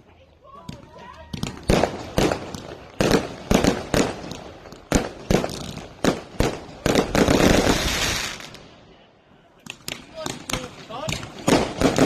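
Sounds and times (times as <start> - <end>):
fireworks crackling: 0.0 - 8.9, 9.6 - 12.0
fireworks banging: 0.6 - 8.7, 9.6 - 12.0.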